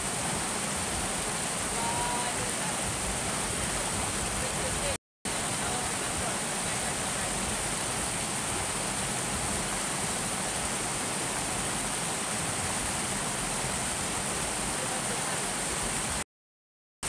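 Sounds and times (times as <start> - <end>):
stream rushing over rocks: 0.0 - 16.2.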